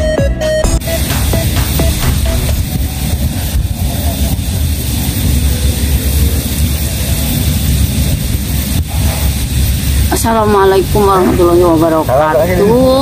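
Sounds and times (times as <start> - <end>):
wind buffeting microphone: 1.9 - 13.0.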